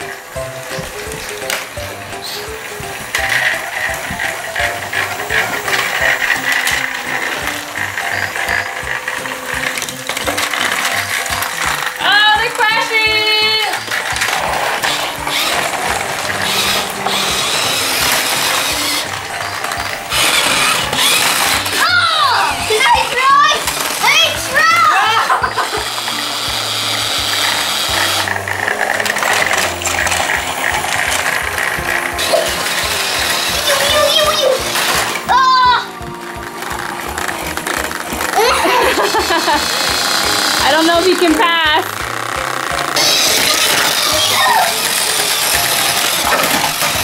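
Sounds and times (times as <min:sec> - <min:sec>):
toy train motors and gears clattering: 0:00.0 - 0:47.0.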